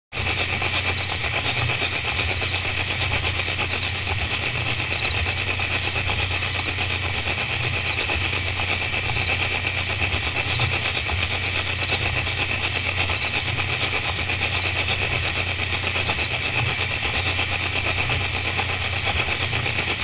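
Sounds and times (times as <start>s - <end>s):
crickets trilling: 0.2s - 20.0s
higher insect call: 0.2s - 20.0s
steady low hum: 0.2s - 20.0s.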